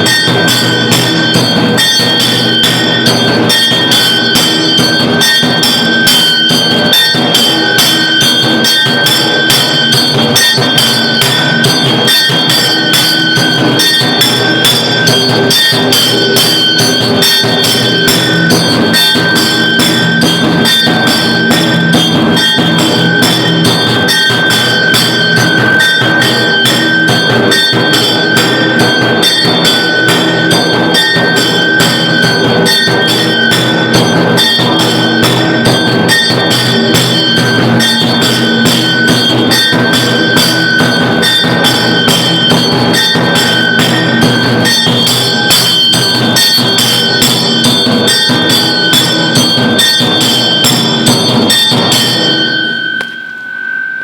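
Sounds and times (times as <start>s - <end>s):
drums beating: 0.0s - 53.2s
temple bells ringing: 0.0s - 54.0s.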